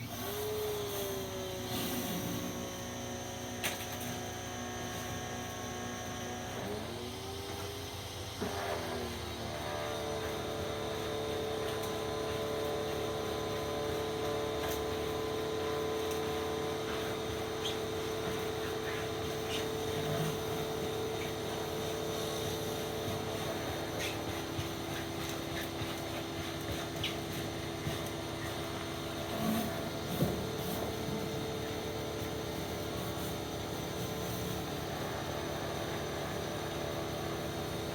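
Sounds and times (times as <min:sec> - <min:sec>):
pressure washer running: 0:00.0 - 0:37.9.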